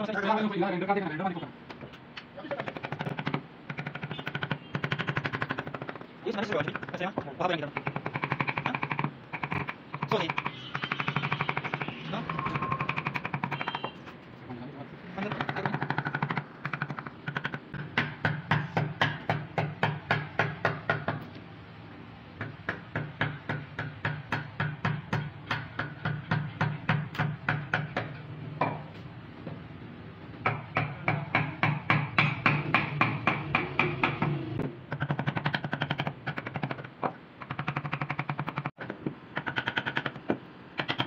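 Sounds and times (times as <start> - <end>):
wooden mallet tapping chisel: 2.5 - 14.0, 15.2 - 21.4, 22.4 - 28.9, 30.4 - 41.0.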